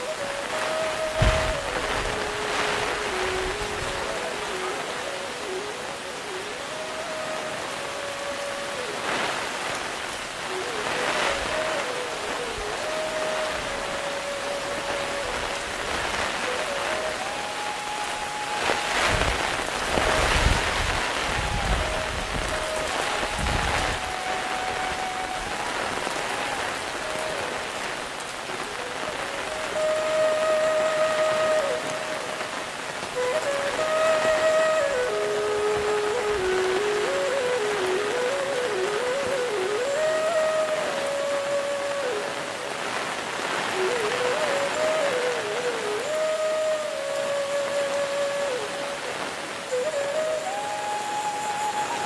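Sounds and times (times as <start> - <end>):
heavy rain on an umbrella: 0.0 - 52.0
slow melody of held notes: 0.0 - 52.0.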